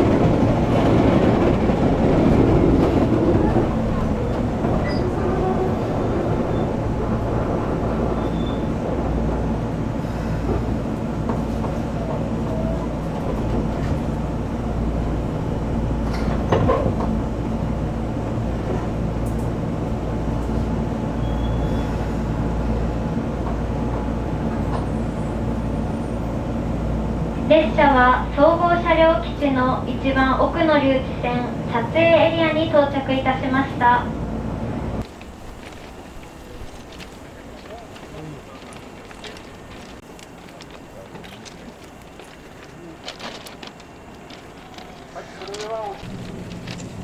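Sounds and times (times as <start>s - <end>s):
train running gear rumble: 0.0s - 47.0s.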